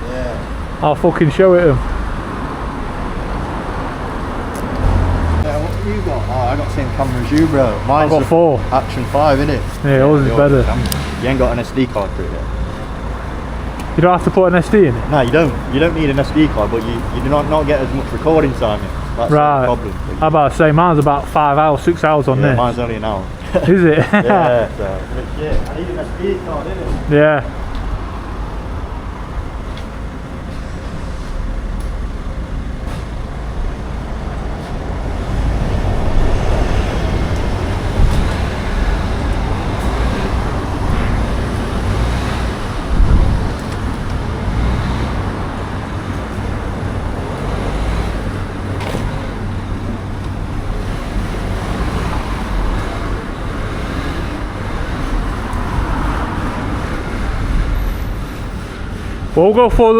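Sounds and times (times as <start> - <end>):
motor vehicle rumbling: 0.0 - 59.9.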